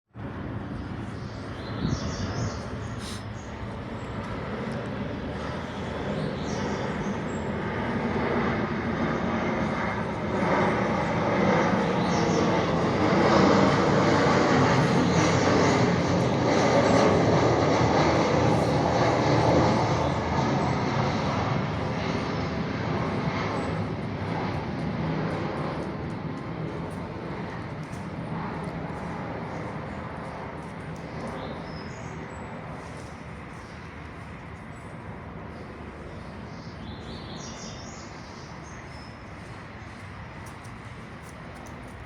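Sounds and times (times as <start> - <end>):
airplane passing overhead: 0.1 - 42.0.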